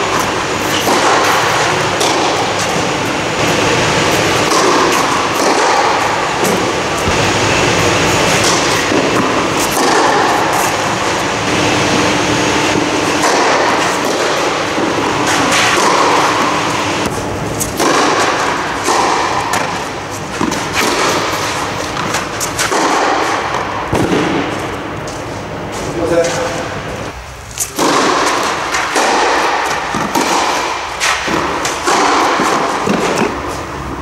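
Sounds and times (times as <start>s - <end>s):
tennis balls struck by rackets: 0.0s - 25.4s, 27.6s - 34.0s
steady loud hiss: 0.0s - 34.0s.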